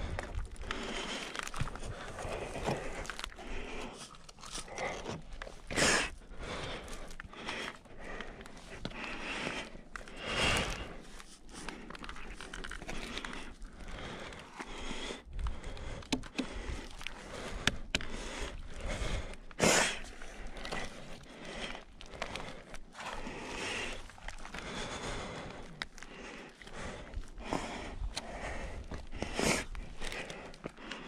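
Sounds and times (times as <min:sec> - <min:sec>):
person breathing hard: 0:00.0 - 0:31.0.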